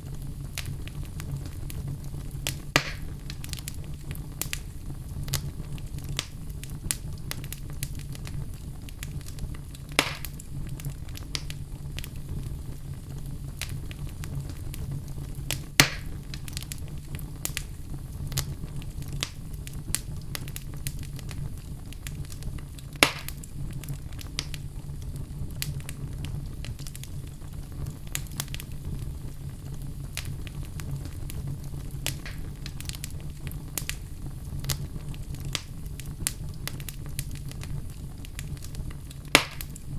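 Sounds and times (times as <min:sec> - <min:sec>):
fire crackling: 0:00.0 - 0:39.9
low rumble of flames: 0:00.0 - 0:39.9
sharp pops of fire: 0:00.0 - 0:39.9.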